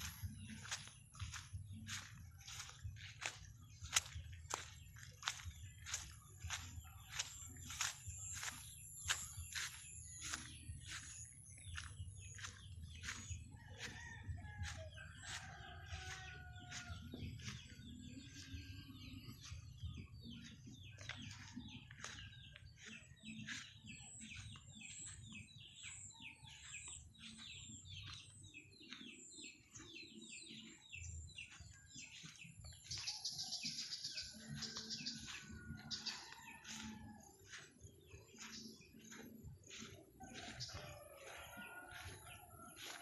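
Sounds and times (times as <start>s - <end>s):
chickens chirping and clucking: 0.0s - 43.0s.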